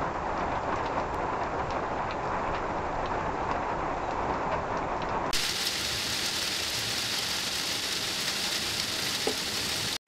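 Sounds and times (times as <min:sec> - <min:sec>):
rain hissing: 0:00.0 - 0:10.0.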